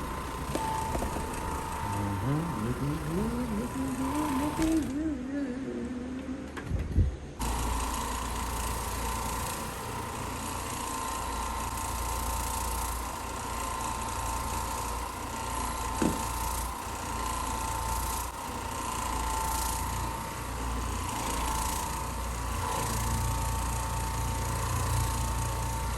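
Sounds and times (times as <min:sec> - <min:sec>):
carpet cleaning machine whining: 0:00.0 - 0:06.6, 0:07.4 - 0:25.9.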